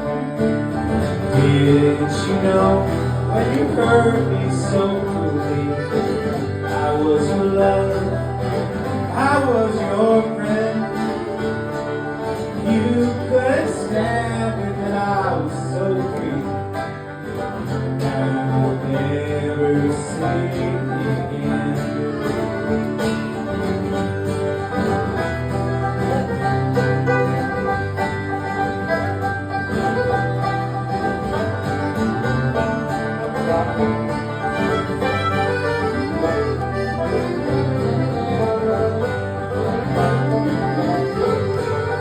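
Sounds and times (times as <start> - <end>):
acoustic guitar picking: 0.0 - 42.0
banjo picking: 0.0 - 42.0.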